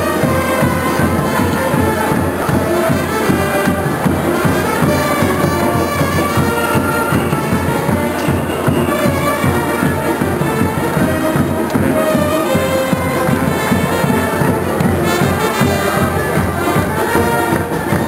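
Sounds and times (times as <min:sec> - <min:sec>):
brass band music: 0:00.0 - 0:18.0.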